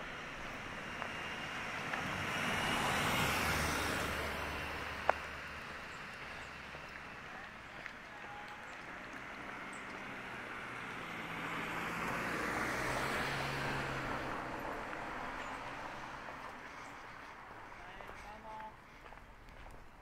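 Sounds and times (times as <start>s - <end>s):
vehicle passing: 0.0s - 20.0s.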